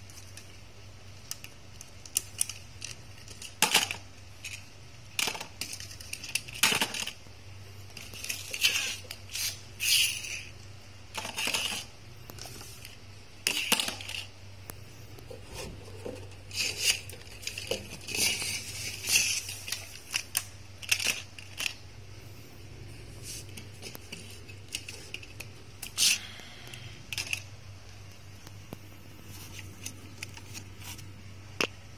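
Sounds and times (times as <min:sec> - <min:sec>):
faint low hum: 0:00.0 - 0:31.9.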